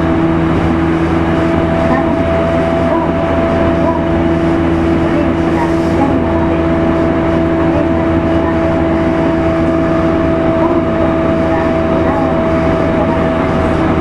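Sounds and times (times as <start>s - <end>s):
traction motor whine: 0.0s - 14.0s
train wheels rumbling on rail: 0.0s - 14.0s.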